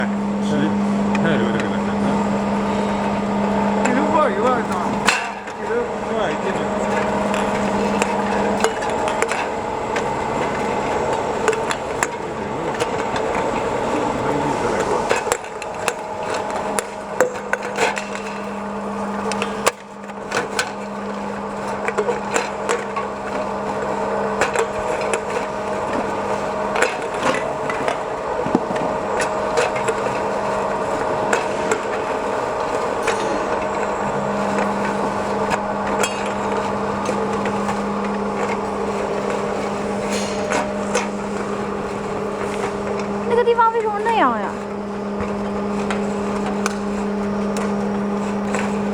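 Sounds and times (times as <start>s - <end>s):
machine hum: 0.0s - 48.9s.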